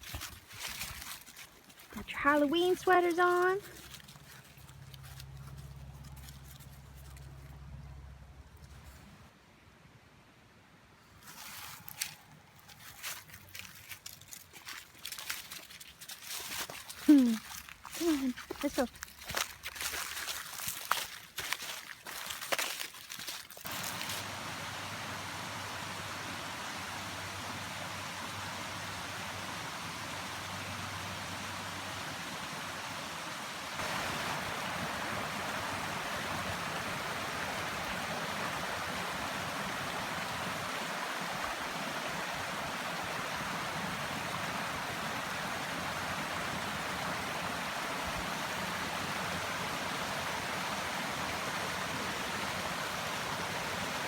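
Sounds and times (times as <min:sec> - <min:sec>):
running water rushing: 0:00.0 - 0:07.4, 0:11.4 - 0:54.0.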